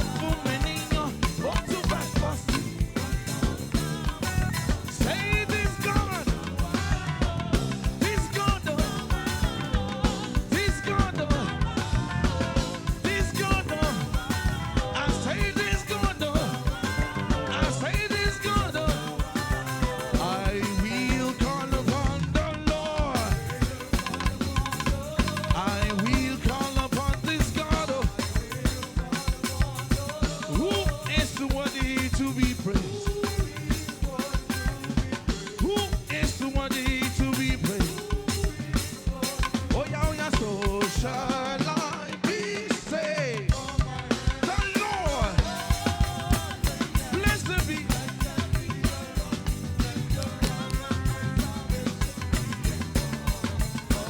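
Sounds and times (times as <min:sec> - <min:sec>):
drum kit playing fast beat: 0:00.0 - 0:54.0
live band music: 0:00.0 - 0:54.0.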